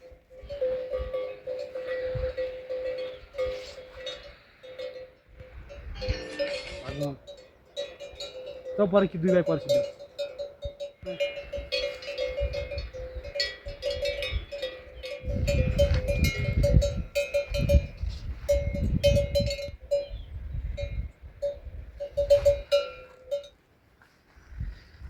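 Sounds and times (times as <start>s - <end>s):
metal livestock bell clanking: 0.0s - 20.2s, 20.8s - 23.6s.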